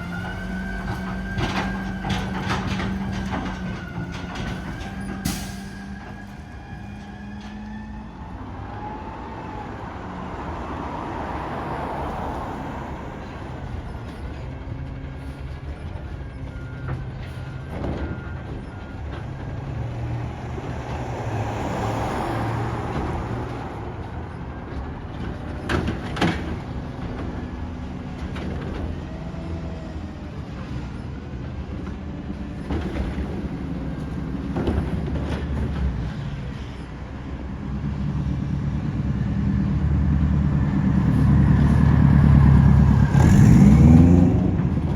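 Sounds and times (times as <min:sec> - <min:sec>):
garbage truck engine: 0:00.0 - 0:44.9.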